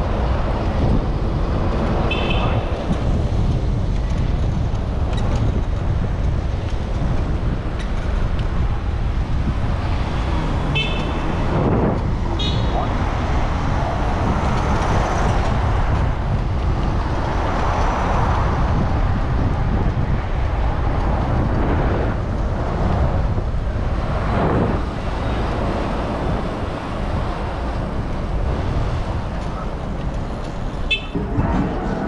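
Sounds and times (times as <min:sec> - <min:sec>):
road and traffic noise: 0:00.0 - 0:32.0
wind rushing on camera: 0:00.0 - 0:32.0.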